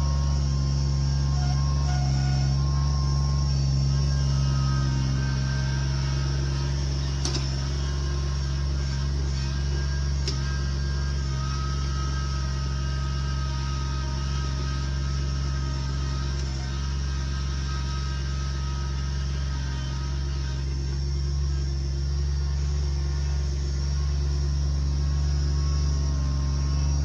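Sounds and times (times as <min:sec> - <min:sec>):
machine engine running steadily: 0:00.0 - 0:27.0.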